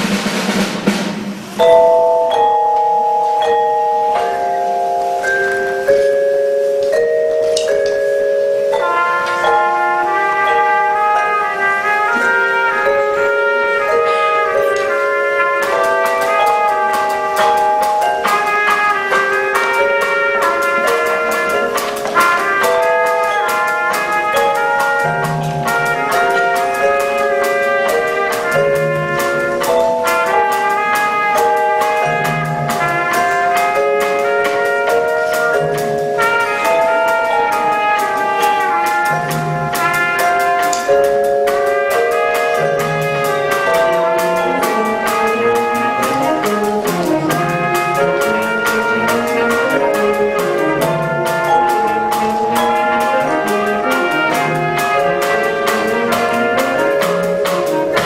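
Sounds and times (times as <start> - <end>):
concert band playing: 0.0 - 58.0
drum and cymbal beat: 0.0 - 58.0
wind and brass chords: 0.0 - 58.0.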